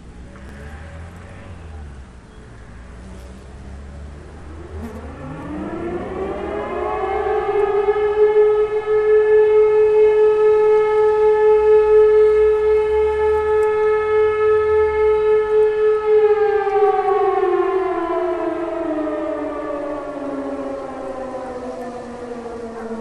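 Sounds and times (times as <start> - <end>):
distant air-raid siren howl: 0.0 - 23.0.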